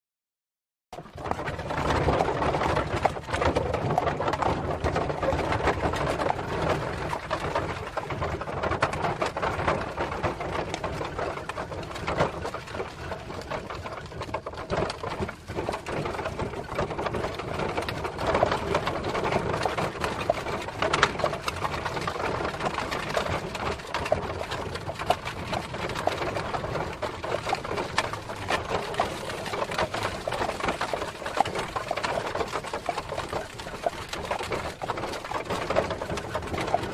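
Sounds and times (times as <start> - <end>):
horse-drawn cart wheels and hooves: 1.0 - 36.9.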